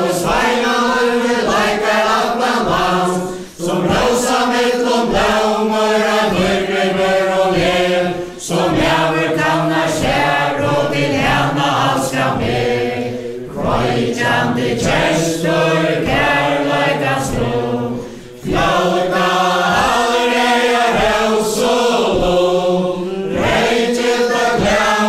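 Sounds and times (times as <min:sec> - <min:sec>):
men and women singing together: 0:00.0 - 0:25.0.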